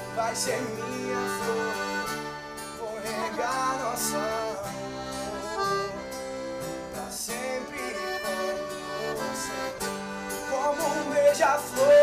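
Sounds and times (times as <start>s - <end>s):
man singing: 0.0s - 2.1s, 2.7s - 6.0s, 6.8s - 9.8s, 10.4s - 12.0s
accordion melody: 0.0s - 12.0s
strummed acoustic guitar: 0.0s - 12.0s.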